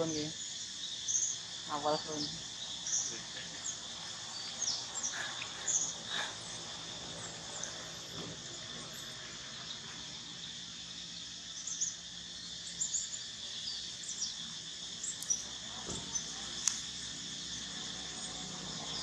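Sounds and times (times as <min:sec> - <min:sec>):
high-pitched insect buzz: 0:00.0 - 0:19.0.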